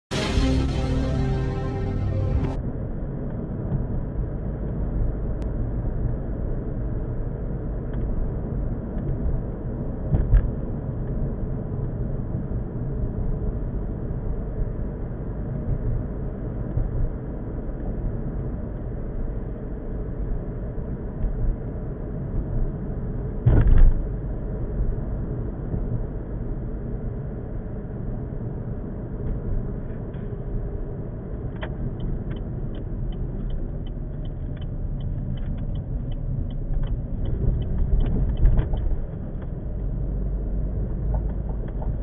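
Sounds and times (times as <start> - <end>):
car engine and tyre rumble: 0.1 - 42.0.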